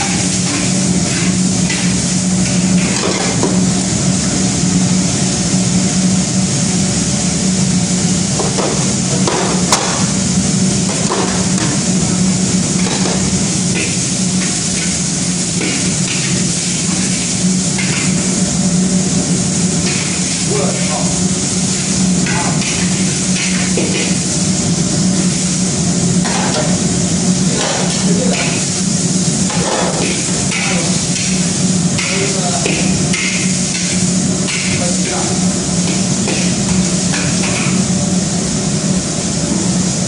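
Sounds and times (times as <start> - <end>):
vegetables sizzling in a pan: 0.0 - 40.0.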